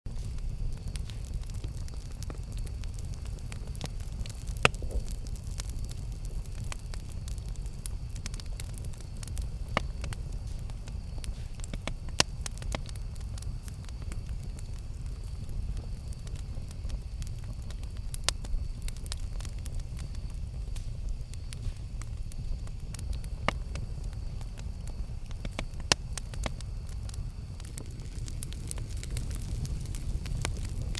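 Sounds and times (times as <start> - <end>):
low rumble of flame: 0.1 - 30.9
wood crackling and popping: 0.1 - 30.9.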